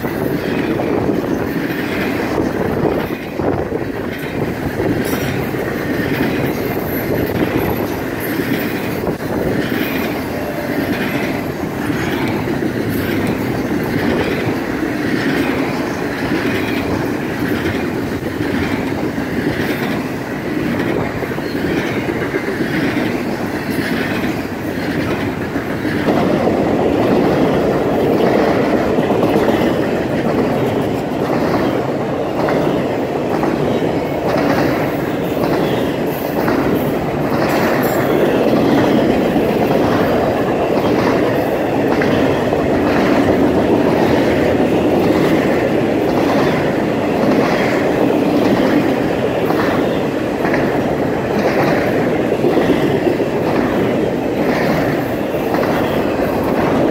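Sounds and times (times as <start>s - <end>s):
train rumbling past: 0.0s - 56.9s
wheels clacking over rail joints: 0.0s - 56.9s.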